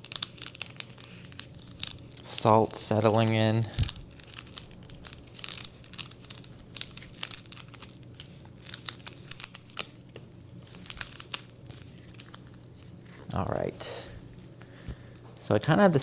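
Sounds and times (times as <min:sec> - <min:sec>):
faint steady hum: 0:00.0 - 0:16.0
handlebar tape crinkling and tearing: 0:00.0 - 0:16.0.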